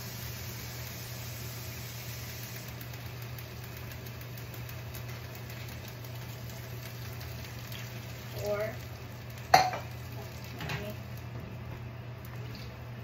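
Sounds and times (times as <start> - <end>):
food sizzling in a wok: 0.0 - 11.7
steady low hum: 0.0 - 13.0
light crackling: 0.2 - 13.0.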